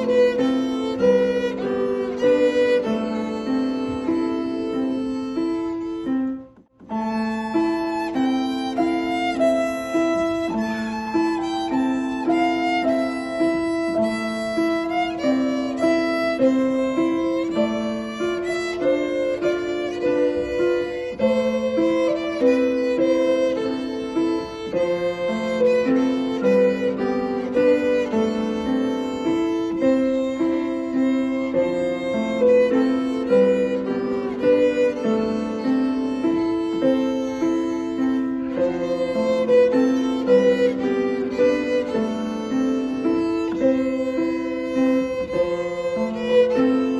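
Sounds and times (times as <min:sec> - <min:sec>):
instrumental duet with piano: 0:00.0 - 0:46.9.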